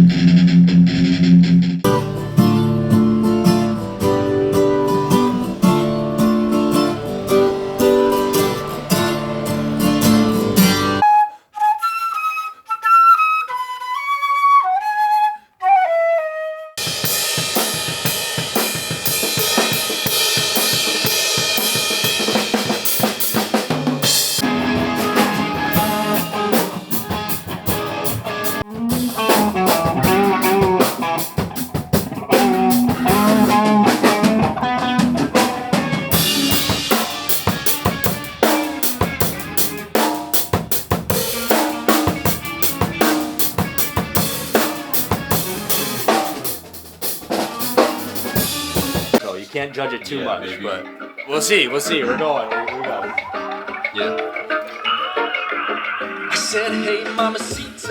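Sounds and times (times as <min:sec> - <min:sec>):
band playing: 0:00.0 - 0:11.0, 0:16.8 - 0:57.9
drum kit beat: 0:00.0 - 0:11.0, 0:16.8 - 0:50.3, 0:51.4 - 0:57.9.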